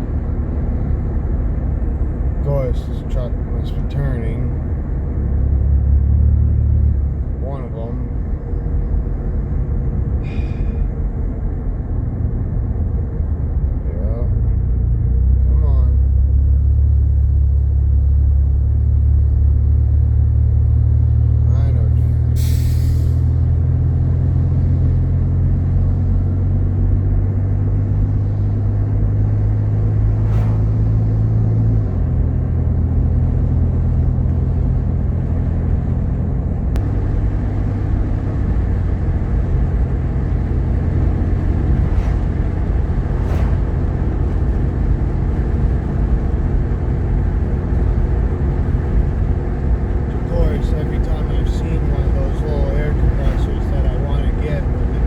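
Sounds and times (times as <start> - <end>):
car engine cabin drone: 0.0 - 55.0
road noise: 0.0 - 55.0.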